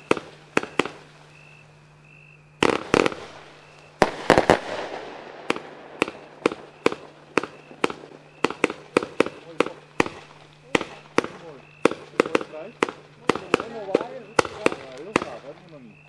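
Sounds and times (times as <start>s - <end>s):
fireworks bangs: 0.0s - 1.7s, 2.6s - 16.0s.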